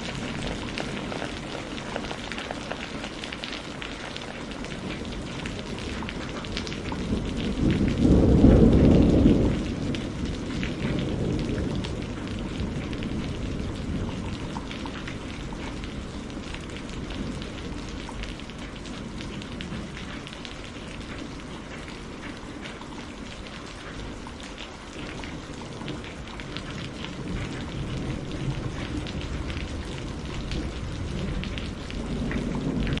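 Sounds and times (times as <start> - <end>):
rain drops ticking: 0.0 - 33.0.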